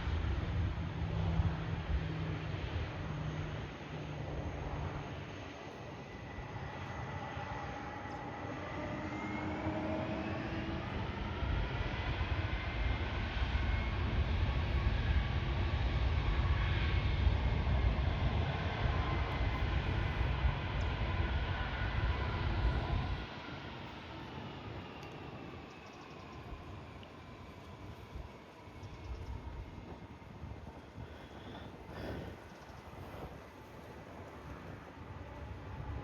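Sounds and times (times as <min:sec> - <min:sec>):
jet airliner engines passing: 0:00.0 - 0:36.0.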